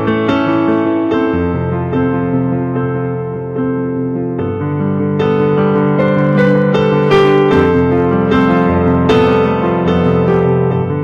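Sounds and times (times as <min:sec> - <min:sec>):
sustained piano chords: 0:00.0 - 0:11.0.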